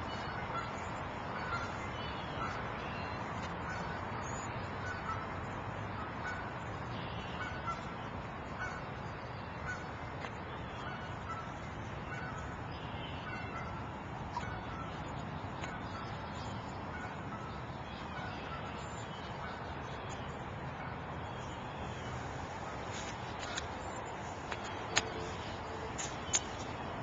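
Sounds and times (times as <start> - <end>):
bird calling: 0.0 - 5.3, 6.0 - 27.0.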